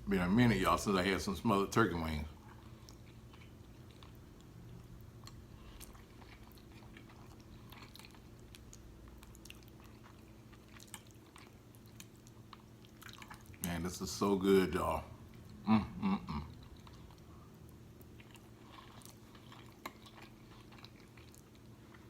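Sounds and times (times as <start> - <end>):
steady low hum: 0.0 - 22.0
faint chewing: 2.2 - 13.8, 15.2 - 22.0.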